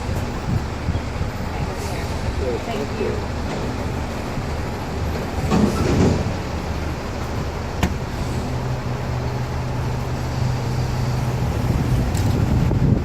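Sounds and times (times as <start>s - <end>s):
garbage truck engine rumbling: 0.0s - 13.0s.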